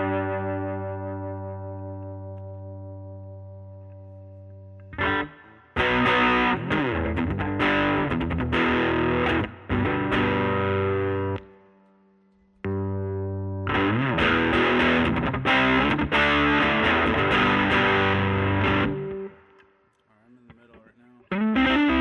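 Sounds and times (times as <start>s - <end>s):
overdriven electric guitar chords: 0.0s - 19.7s, 21.2s - 22.0s.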